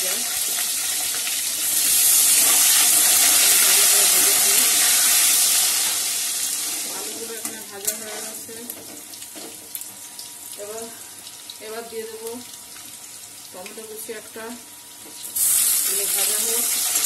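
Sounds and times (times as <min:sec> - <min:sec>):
potato wedges sizzling in oil: 0:00.0 - 0:17.0.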